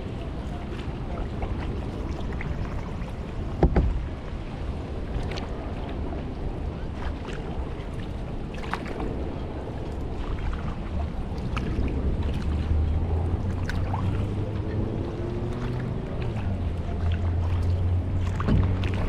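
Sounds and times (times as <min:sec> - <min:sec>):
paddle splashing in water: 0:00.0 - 0:19.0
wind on microphone: 0:00.0 - 0:19.0.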